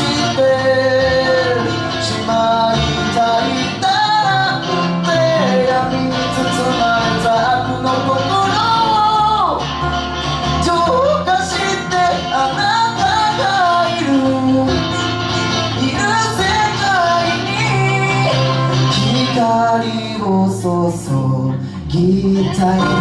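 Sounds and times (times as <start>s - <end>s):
young man singing: 0.0s - 9.7s, 10.4s - 23.0s
acoustic guitar strumming: 0.0s - 23.0s
electric bass: 0.0s - 23.0s
electric guitar: 0.0s - 23.0s.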